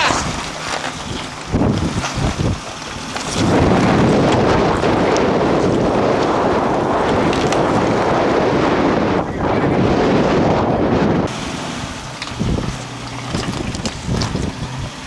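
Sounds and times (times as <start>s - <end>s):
suv engine at full throttle: 0.0s - 15.0s
wind buffeting microphone: 0.0s - 15.0s.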